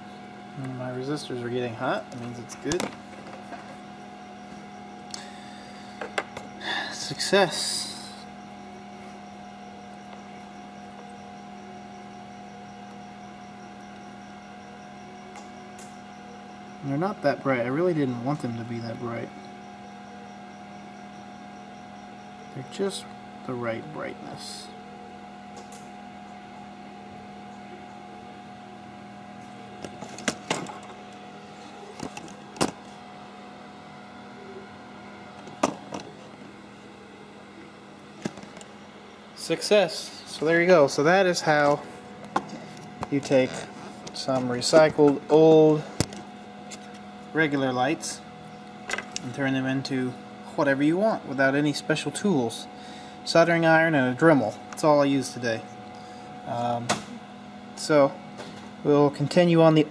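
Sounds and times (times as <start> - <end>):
electrical hum: 0.0 - 59.9
faint high whine: 0.0 - 59.9.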